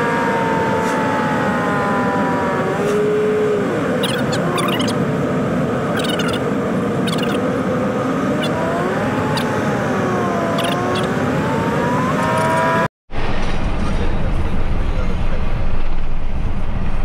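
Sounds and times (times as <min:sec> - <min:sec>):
diesel truck engine and road noise: 0:00.0 - 0:17.0.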